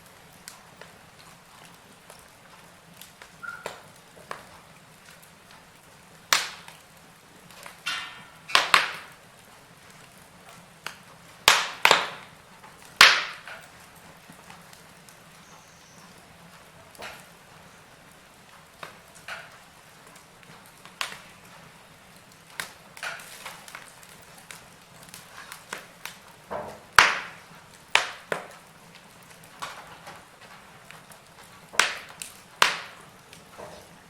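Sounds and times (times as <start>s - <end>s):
firewood crackling in fireplace: 0.0s - 34.0s.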